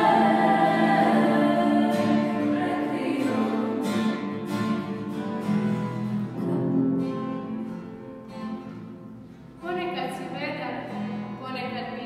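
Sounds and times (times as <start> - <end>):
acoustic guitar strumming chords: 0.0 - 11.8.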